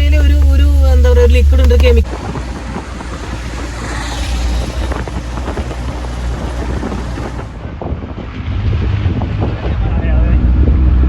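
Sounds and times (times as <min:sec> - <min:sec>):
vehicle engine rumble: 0:00.0 - 0:11.0
wind buffeting microphone: 0:00.0 - 0:11.0.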